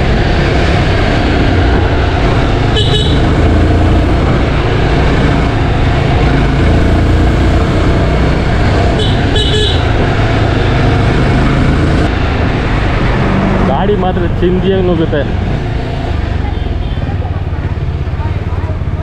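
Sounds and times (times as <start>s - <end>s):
motorcycle engine running: 0.0s - 13.6s, 14.4s - 19.0s
road and wind noise: 0.0s - 19.0s.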